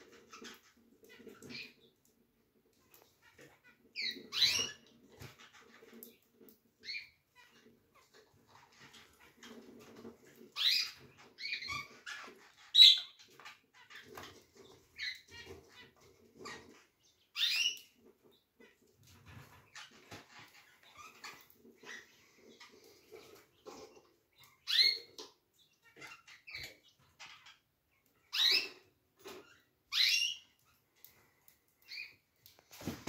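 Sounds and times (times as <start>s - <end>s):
caged birds chirping: 0.0s - 33.0s.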